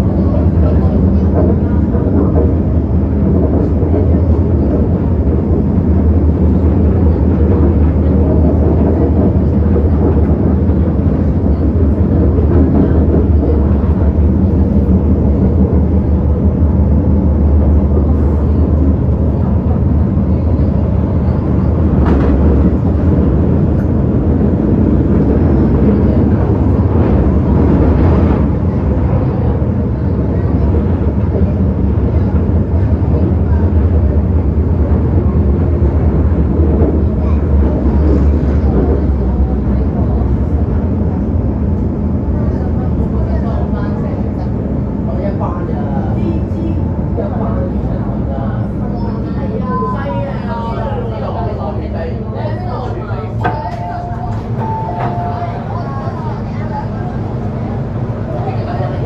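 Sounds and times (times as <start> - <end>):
wheel and track rumble: 0.0 - 59.0.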